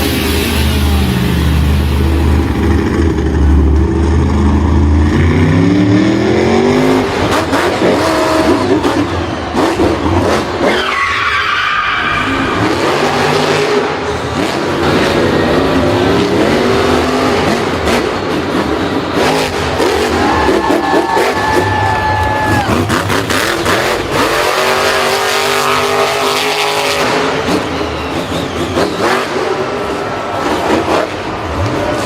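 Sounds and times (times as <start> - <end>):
vehicle engines revving: 0.0 - 32.0.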